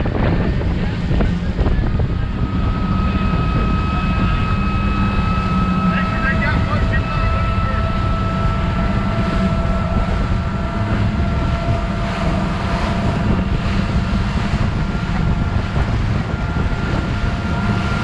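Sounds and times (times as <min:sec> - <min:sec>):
constant whine: 0:00.0 - 0:18.0
motor droning: 0:00.0 - 0:18.0
wind buffeting microphone: 0:00.0 - 0:18.0.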